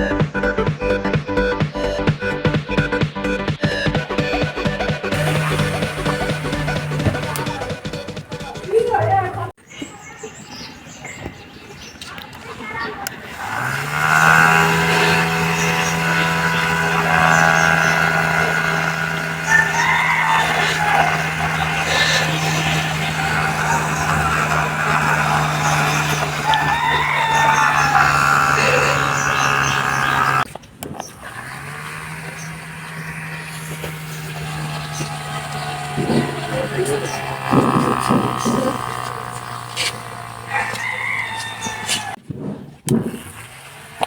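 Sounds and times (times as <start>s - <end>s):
small motor whining: 2.8s - 9.6s, 12.3s - 42.2s, 42.9s - 44.0s.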